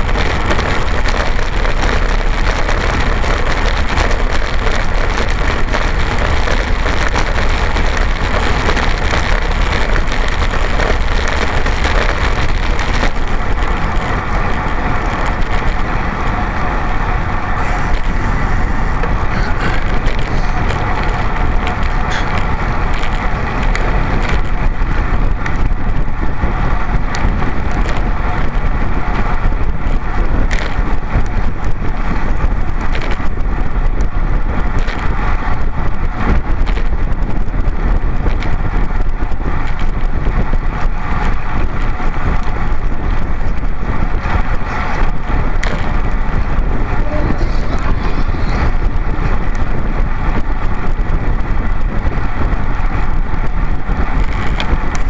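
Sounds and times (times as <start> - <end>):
tyres humming on asphalt: 0.0 - 55.0
wind on microphone: 0.0 - 55.0.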